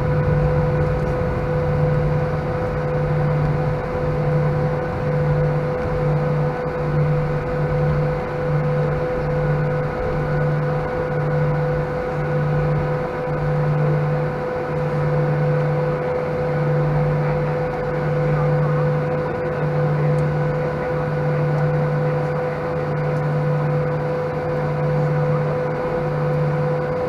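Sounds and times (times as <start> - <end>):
airliner cabin engine hum: 0.0 - 27.0
pulsing low hum: 0.0 - 27.0.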